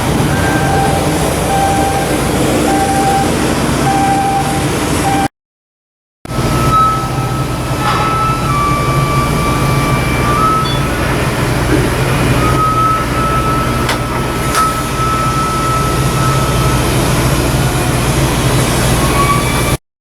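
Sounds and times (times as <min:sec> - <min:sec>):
low machinery rumble: 0:00.0 - 0:05.3, 0:06.3 - 0:19.8.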